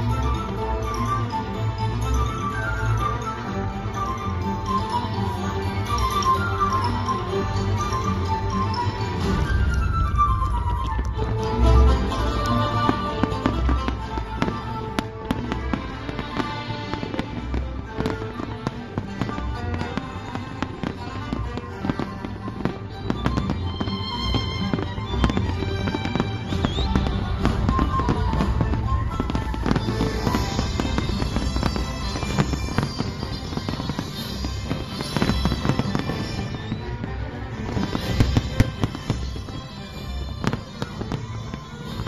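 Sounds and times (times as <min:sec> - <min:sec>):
fireworks bangs and crackles: 0:00.0 - 0:42.0
music playing: 0:00.0 - 0:42.0.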